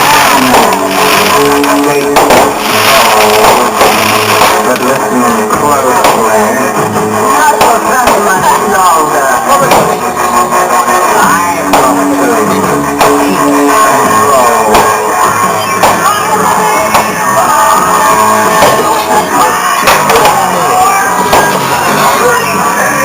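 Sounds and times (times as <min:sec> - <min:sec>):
loud rock music: 0:00.0 - 0:23.0.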